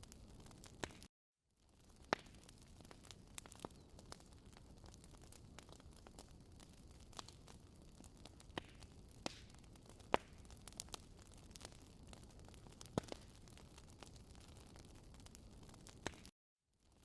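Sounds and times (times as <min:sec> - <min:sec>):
low hiss of burning: 0:00.0 - 0:01.0, 0:01.6 - 0:17.0
wood fire crackling: 0:00.0 - 0:17.0.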